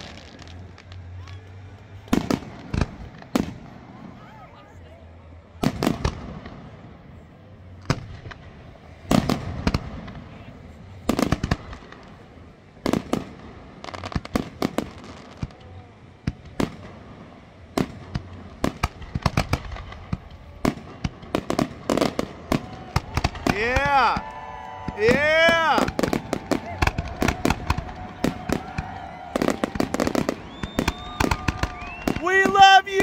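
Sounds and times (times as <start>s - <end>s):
fireworks bangs with echo: 0.0s - 4.6s, 5.5s - 33.0s
crackling firework reports: 0.0s - 33.0s.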